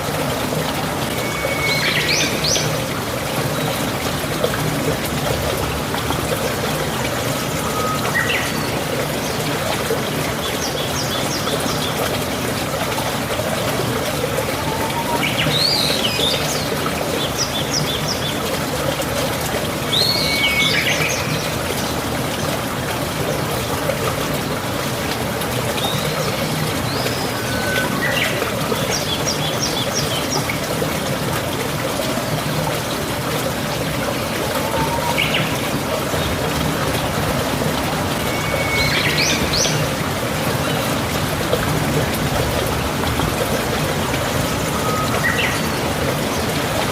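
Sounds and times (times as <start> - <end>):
stream water flowing: 0.0 - 46.9.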